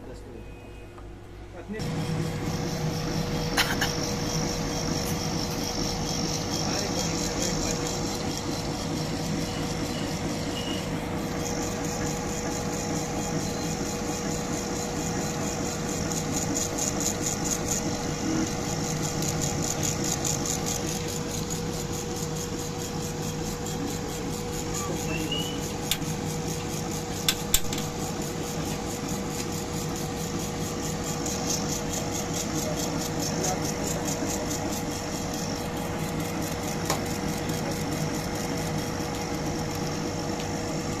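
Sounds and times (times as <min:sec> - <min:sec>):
laser engraver humming: 0:00.1 - 0:41.0.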